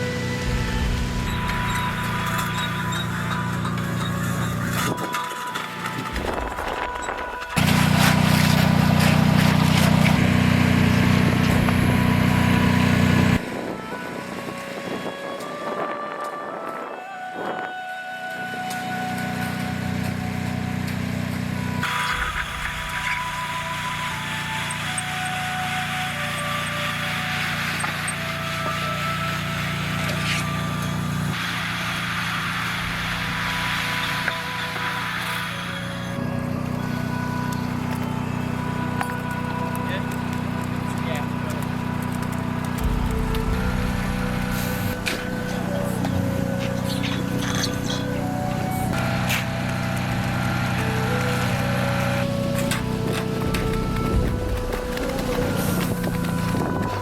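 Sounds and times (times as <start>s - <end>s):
engine running steadily: 0.0s - 15.6s, 18.6s - 57.0s.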